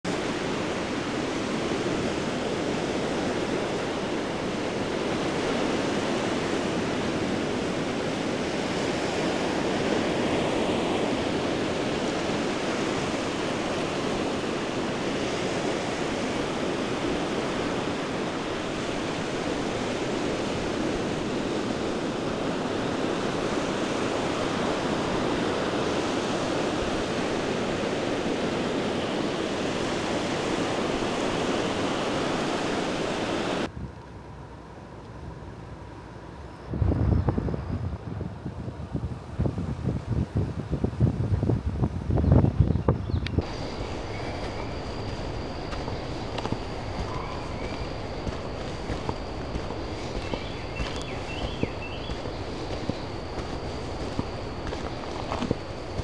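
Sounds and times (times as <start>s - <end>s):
small waves washing up beach: 0.1s - 33.7s, 43.4s - 56.0s.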